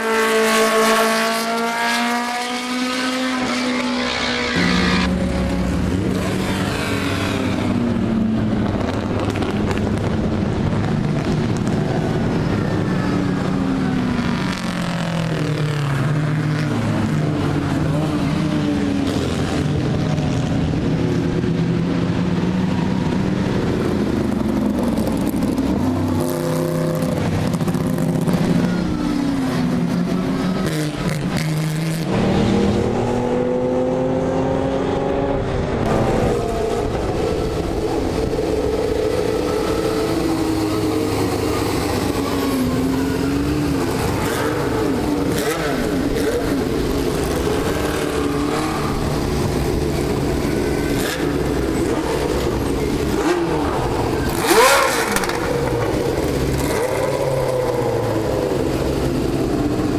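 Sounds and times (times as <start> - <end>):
racing car engines passing: 0.0 - 59.9.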